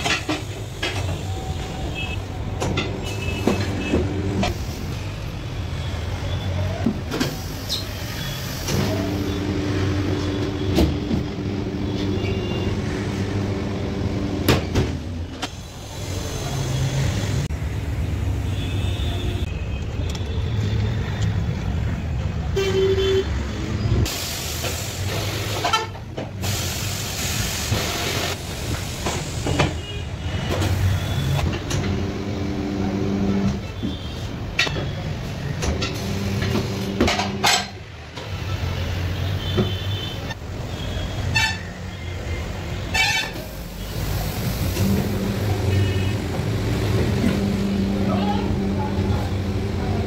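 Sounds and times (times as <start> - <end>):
traffic noise: 0.0 - 50.0.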